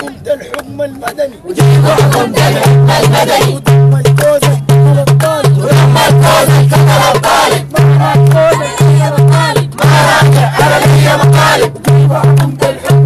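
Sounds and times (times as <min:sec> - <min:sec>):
crowd singing and chanting: 0:00.0 - 0:13.0
music with quick beat: 0:01.0 - 0:13.0.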